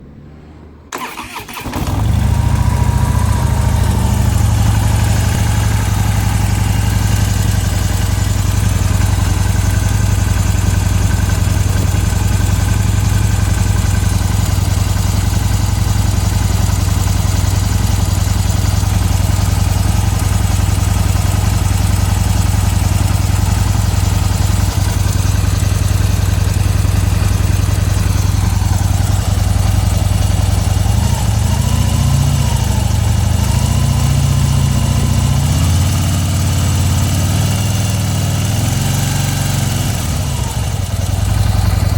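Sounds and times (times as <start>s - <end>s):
motorcycle engine starting and idling: 0.0s - 41.9s
engine ticking: 0.9s - 41.9s.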